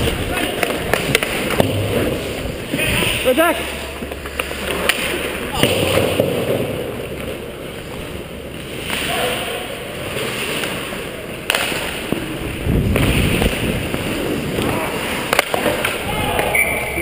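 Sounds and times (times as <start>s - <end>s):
ice skates scraping on ice: 0.0s - 16.2s.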